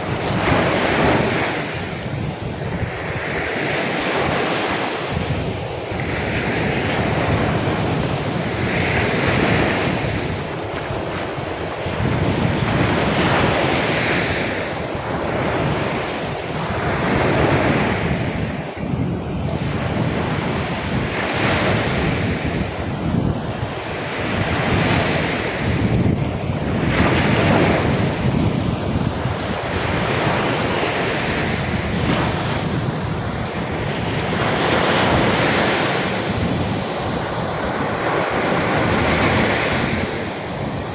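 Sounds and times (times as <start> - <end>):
sea surf breaking on beach: 0.0 - 40.9
wind buffeting microphone: 0.0 - 40.9.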